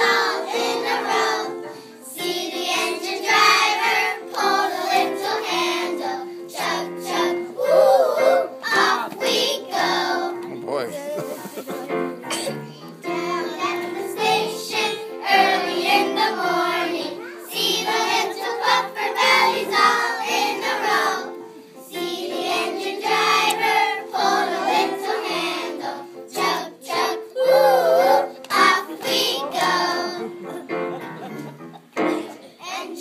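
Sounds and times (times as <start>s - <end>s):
children singing in unison: 0.0s - 10.4s, 13.0s - 31.3s.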